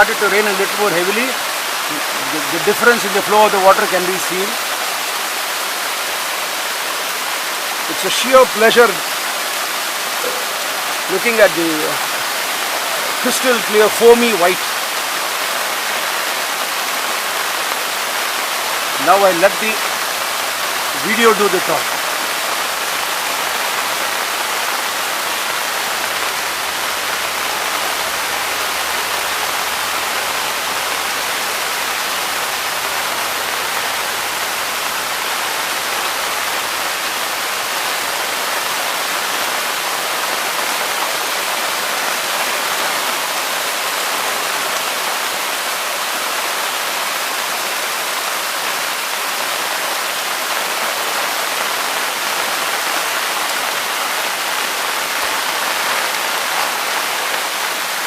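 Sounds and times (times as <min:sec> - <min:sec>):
rain: 0:00.0 - 0:58.0
waterfall rushing: 0:00.0 - 0:58.0.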